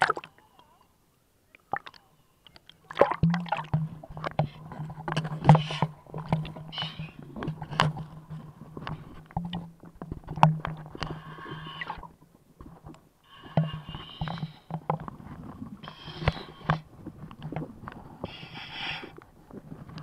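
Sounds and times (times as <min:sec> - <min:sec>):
water splashing: 0:00.0 - 0:00.5, 0:02.6 - 0:18.6
underwater boat engine hum: 0:03.0 - 0:20.0.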